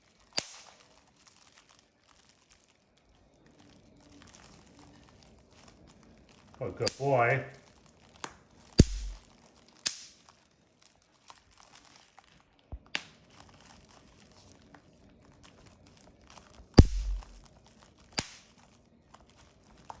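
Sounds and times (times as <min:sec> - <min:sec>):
bubble wrap crinkling: 0:00.0 - 0:20.0
bubble wrap popping: 0:00.0 - 0:20.0.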